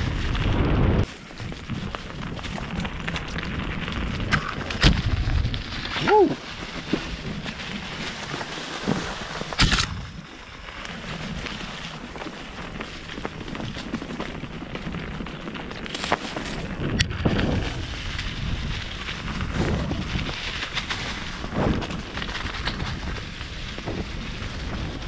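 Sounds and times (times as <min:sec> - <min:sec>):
bike tyre and frame rumble: 0:00.0 - 0:25.0.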